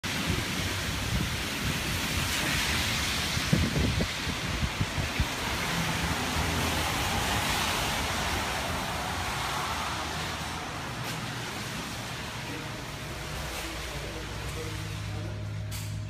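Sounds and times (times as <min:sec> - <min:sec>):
rain: 0:00.0 - 0:16.0
traffic on wet pavement: 0:00.0 - 0:16.0.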